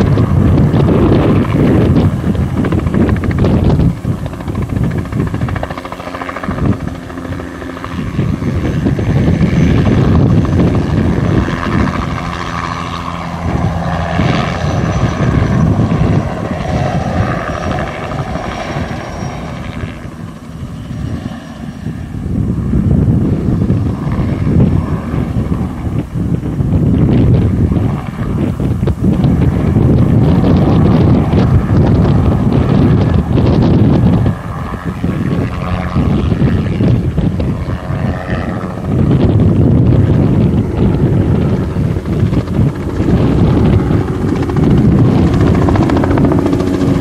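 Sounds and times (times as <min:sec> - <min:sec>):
helicopter rotor beating: 0:00.0 - 0:47.0
helicopter turbine engine: 0:00.0 - 0:47.0
high turbine whine: 0:00.0 - 0:47.0.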